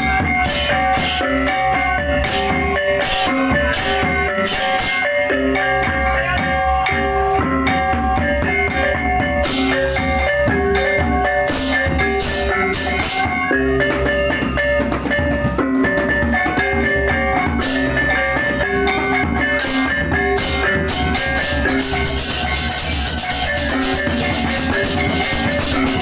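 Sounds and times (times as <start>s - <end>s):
drums: 0.0s - 26.0s
gongs in interlocking patterns: 0.0s - 26.0s.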